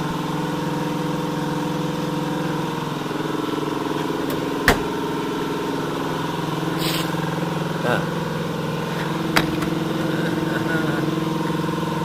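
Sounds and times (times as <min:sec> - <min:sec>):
air compressor running: 0:00.0 - 0:12.0.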